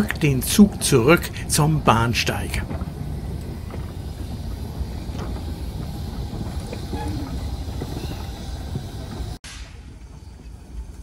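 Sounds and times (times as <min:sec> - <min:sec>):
steam locomotive rumbling: 0:00.0 - 0:11.0
wheels clicking on rails: 0:00.0 - 0:11.0
wind buffeting microphone: 0:00.0 - 0:11.0.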